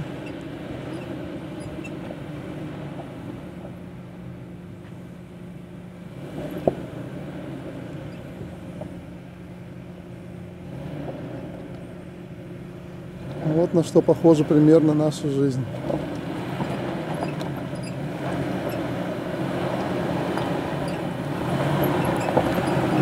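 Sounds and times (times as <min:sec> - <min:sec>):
engine running at low revs: 0:00.0 - 0:23.0.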